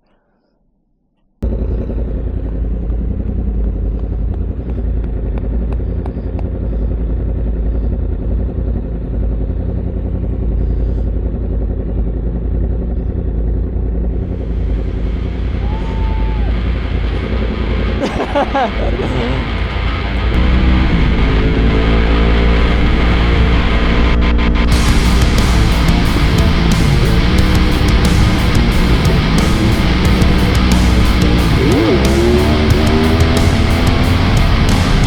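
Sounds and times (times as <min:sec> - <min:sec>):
motorcycle engine: 0:01.4 - 0:35.0.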